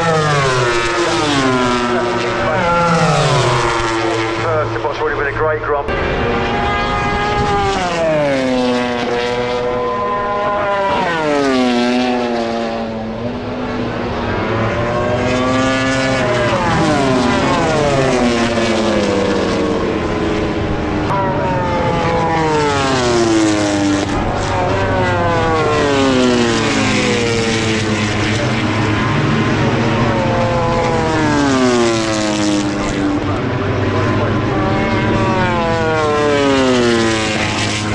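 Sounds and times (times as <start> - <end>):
racing motorcycles passing: 0.0 - 37.9.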